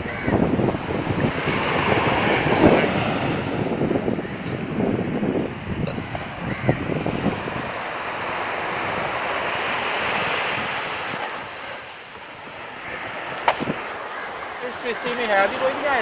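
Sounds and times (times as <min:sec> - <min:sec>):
waves washing on a beach: 0:00.0 - 0:16.0
wind buffeting microphone: 0:00.0 - 0:16.0.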